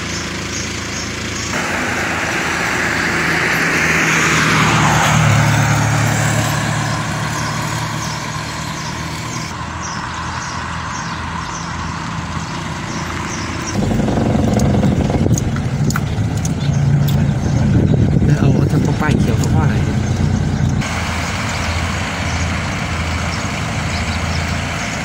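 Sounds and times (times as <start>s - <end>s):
steady engine hum: 0.0s - 25.0s
motor vehicle passing: 1.0s - 18.4s, 19.3s - 25.0s.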